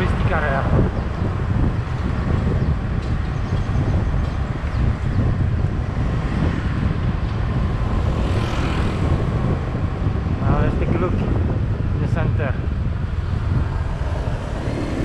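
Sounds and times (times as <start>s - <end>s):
vehicle road noise: 0.0s - 15.0s
wind rumbling on microphone: 0.0s - 15.0s.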